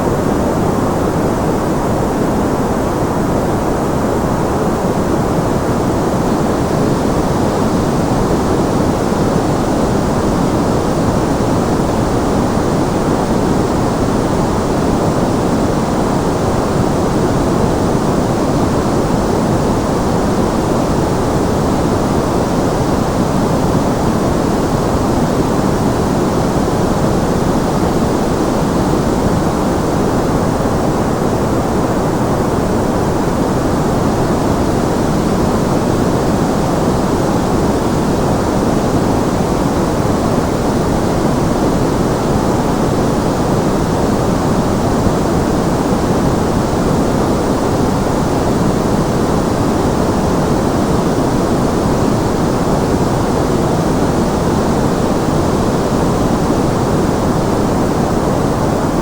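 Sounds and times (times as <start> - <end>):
white noise: 0.0 - 59.0.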